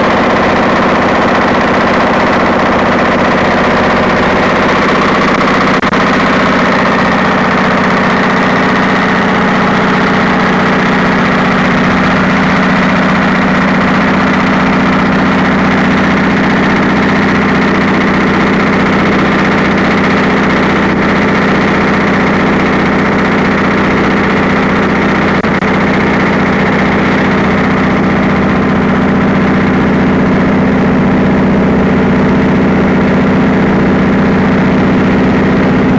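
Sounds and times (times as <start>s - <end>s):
large engine idling: 0.0s - 35.9s.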